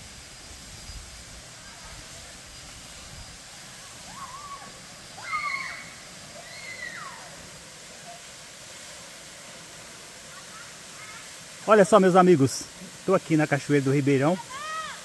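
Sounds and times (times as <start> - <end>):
shallow stream: 0.0 - 15.0
waterfall rushing: 0.0 - 15.0.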